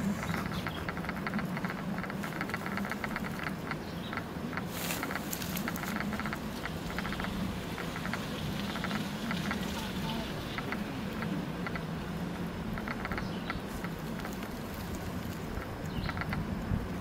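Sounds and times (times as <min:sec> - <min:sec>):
high clicking chirps: 0:00.0 - 0:16.5
steady low hum: 0:00.0 - 0:17.0.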